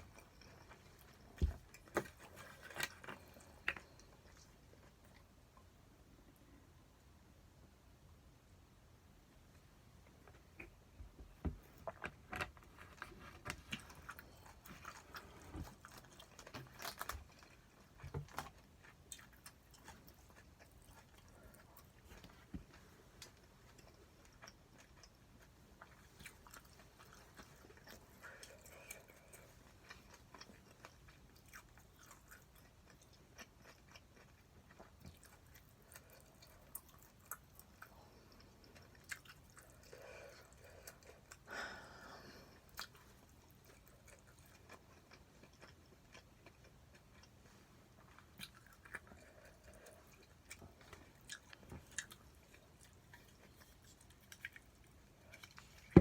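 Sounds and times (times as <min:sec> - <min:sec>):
person chewing food: 0:00.0 - 0:06.6, 0:09.5 - 0:56.0.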